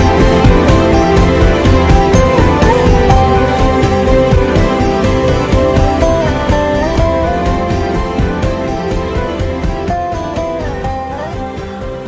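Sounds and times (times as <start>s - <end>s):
film song music: 0.0s - 12.0s.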